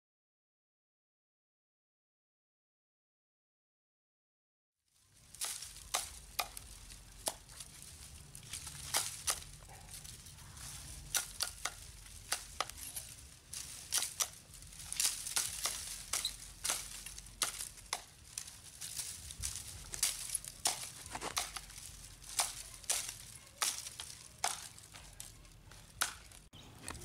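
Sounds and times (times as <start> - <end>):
campfire crackling: 4.9 - 27.0.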